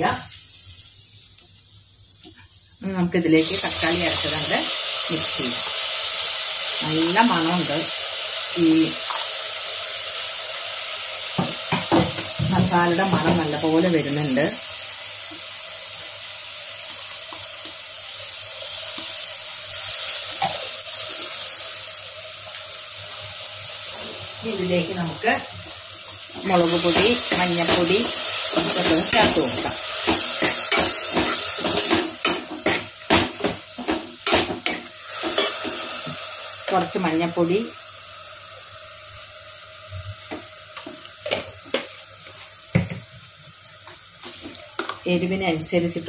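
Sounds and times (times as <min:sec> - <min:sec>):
sauce sizzling in a pot: 0:00.0 - 0:46.0
tomato frying in hot oil: 0:00.0 - 0:46.0.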